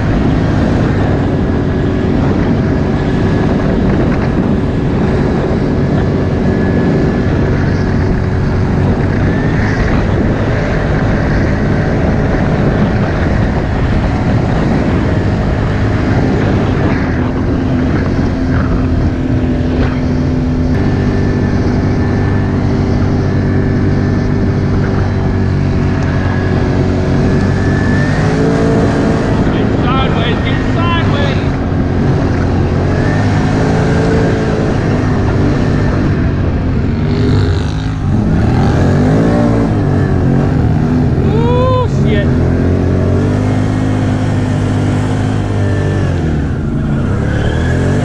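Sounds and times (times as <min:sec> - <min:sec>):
off-road vehicle engine running: 0:00.0 - 0:48.0.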